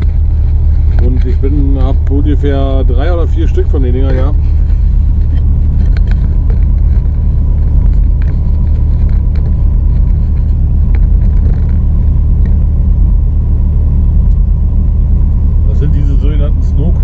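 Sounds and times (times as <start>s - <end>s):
diesel engine drone in cab: 0.0s - 17.0s.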